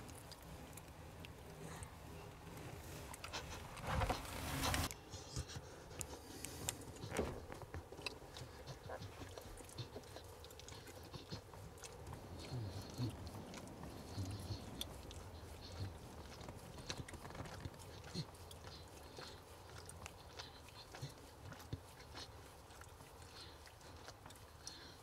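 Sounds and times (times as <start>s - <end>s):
puppies suckling: 0.0s - 25.0s
rustle: 0.0s - 25.0s.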